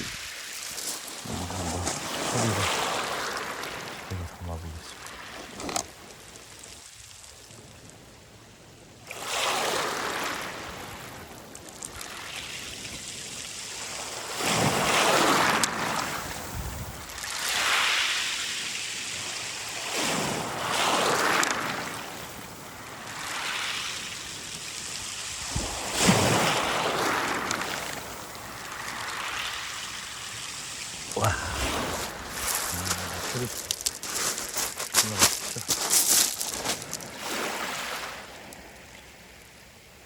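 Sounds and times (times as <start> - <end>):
waves washing over pebbles: 0.0 - 8.2, 9.0 - 40.0.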